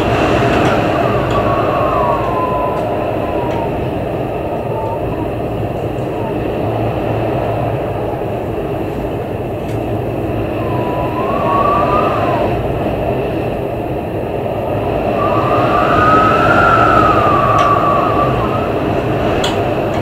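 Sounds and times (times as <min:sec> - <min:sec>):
howling wind whistle: 0:00.0 - 0:20.0
storm wind gusting: 0:00.0 - 0:20.0.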